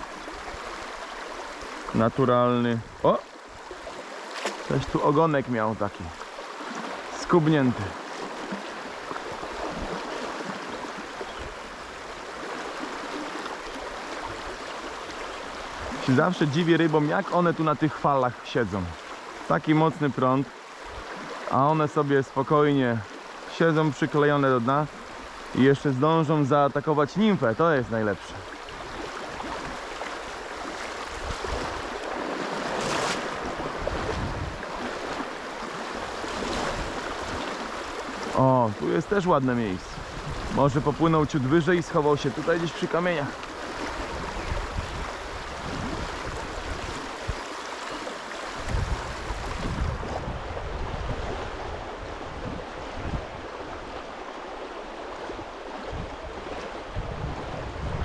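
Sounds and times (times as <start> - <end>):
river current rushing: 0.0 - 58.0.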